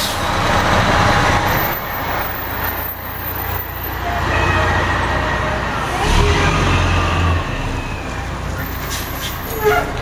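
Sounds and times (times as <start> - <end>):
diesel truck engine passing: 0.0 - 10.0.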